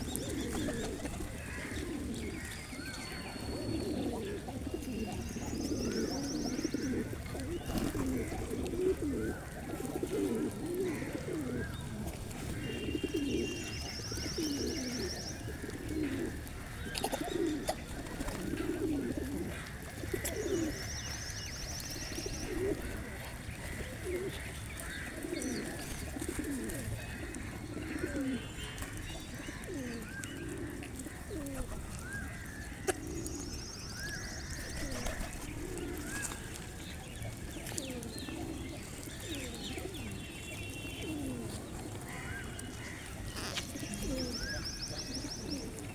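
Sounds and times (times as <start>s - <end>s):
small birds chirping: 0.0s - 10.2s, 10.9s - 19.2s, 20.0s - 27.1s, 27.7s - 45.9s
pigeons cooing: 0.0s - 45.9s.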